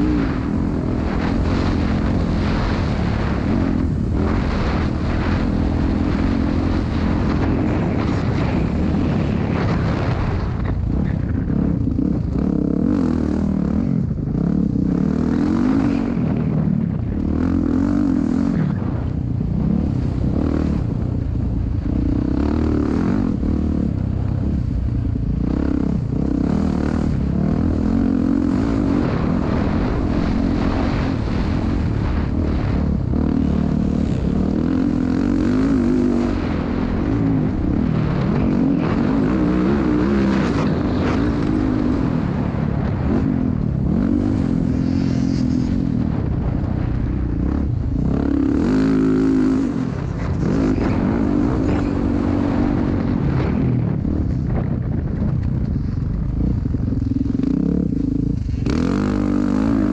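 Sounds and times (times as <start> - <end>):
dirt bike engine revving: 0.0 - 54.5, 56.4 - 59.9.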